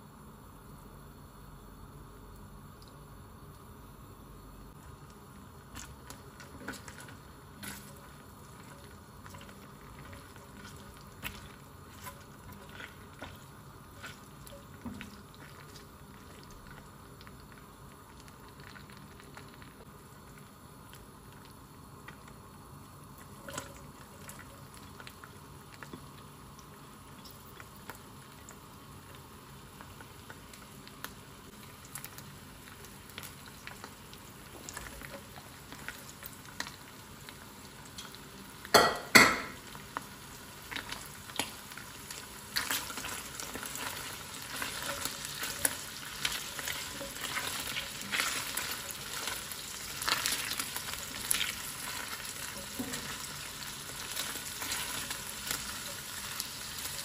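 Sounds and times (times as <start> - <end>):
meat sizzling in a pan: 0.0 - 57.0.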